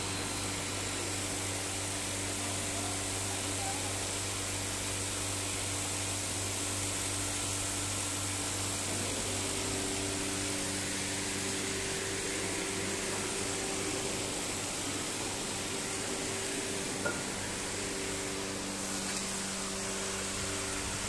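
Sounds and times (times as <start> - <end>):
constant hiss: 0.0 - 21.0
machinery humming: 0.0 - 21.0.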